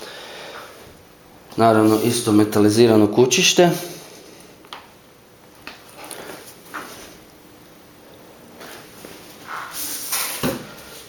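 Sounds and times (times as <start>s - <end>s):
steady room hiss: 0.0s - 11.0s.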